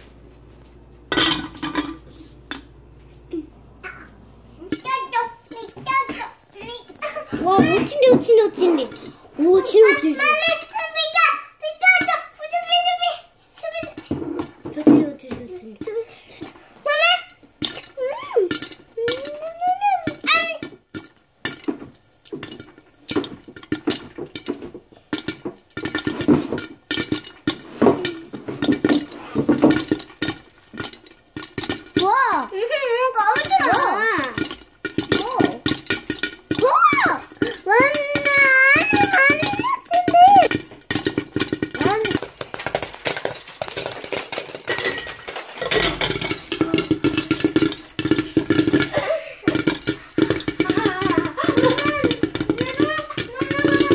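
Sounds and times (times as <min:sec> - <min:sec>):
popcorn popping against a lid: 0:00.5 - 0:53.9.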